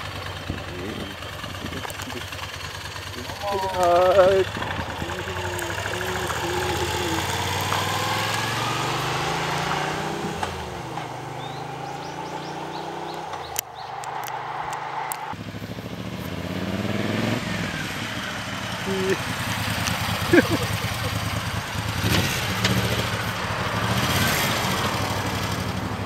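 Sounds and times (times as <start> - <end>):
motorcycles passing: 0.0 - 26.0.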